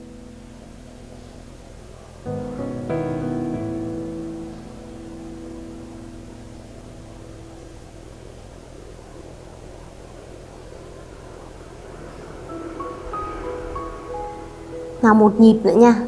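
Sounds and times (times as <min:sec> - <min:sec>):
faint low hum: 0:00.0 - 0:16.0
soft piano music: 0:00.0 - 0:16.0.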